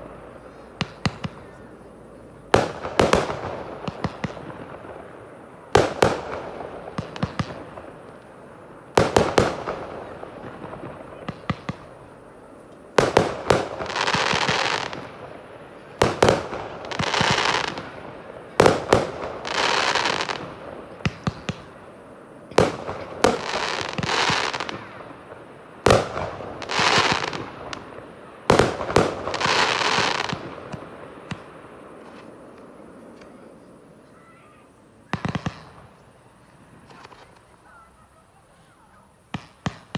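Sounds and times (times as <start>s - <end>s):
firework shells bursting: 0.0s - 33.4s
firework crackling: 0.0s - 39.9s.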